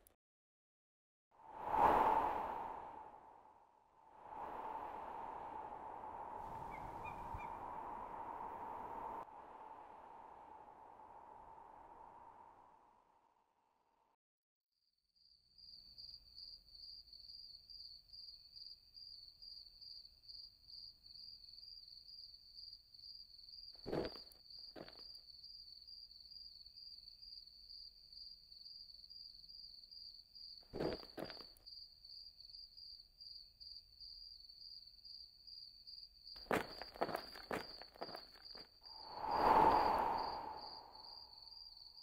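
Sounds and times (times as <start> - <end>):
crickets chirping: 4.2 - 12.8, 15.3 - 42.0.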